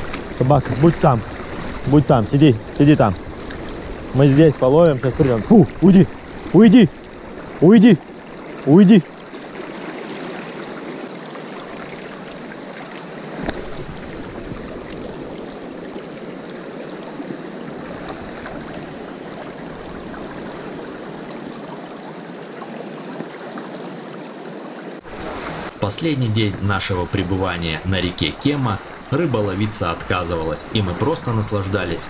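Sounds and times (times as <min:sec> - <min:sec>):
river rushing over stones: 0:00.0 - 0:32.0.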